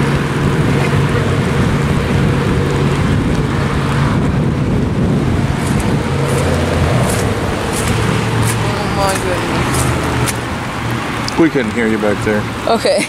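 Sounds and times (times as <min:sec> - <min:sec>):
rain: 0:00.0 - 0:13.0
road traffic: 0:00.0 - 0:13.0.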